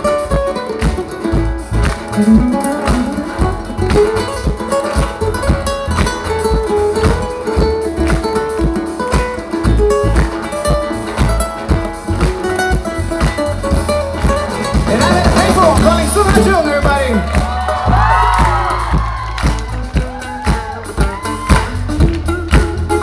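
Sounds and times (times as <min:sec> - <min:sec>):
acoustic band playing: 0:00.0 - 0:23.0.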